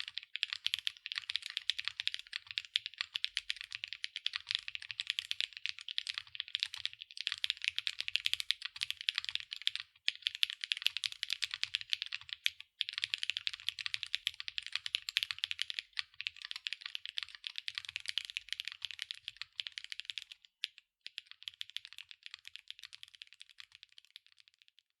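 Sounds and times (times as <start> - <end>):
fast mechanical keyboard typing: 0.0 - 20.4, 21.1 - 24.7.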